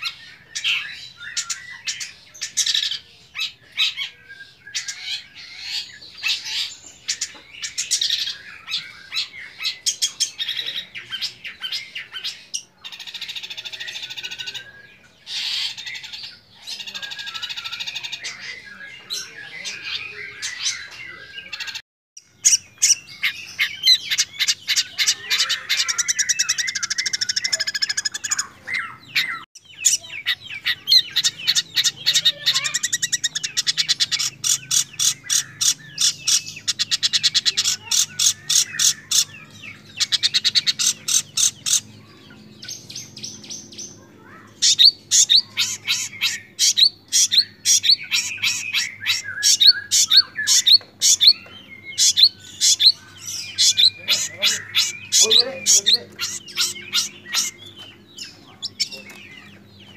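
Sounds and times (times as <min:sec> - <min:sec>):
bird singing chattering trills: 0:00.0 - 0:59.9.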